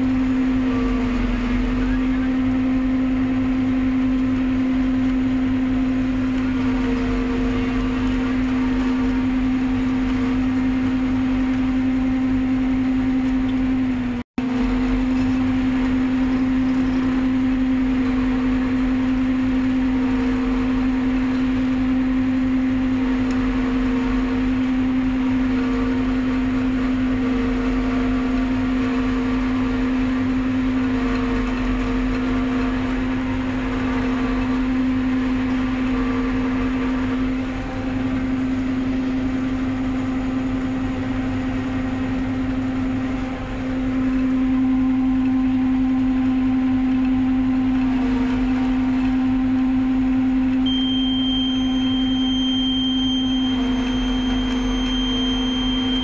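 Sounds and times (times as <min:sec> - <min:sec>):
harvester machine drone: 0:00.0 - 0:56.0.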